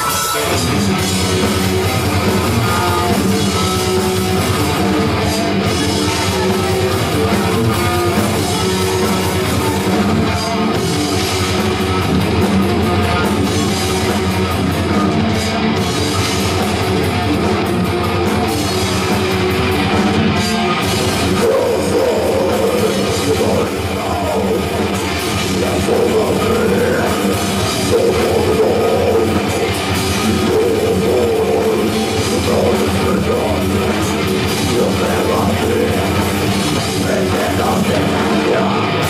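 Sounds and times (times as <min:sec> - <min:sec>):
live rock band playing: 0:00.0 - 0:39.0.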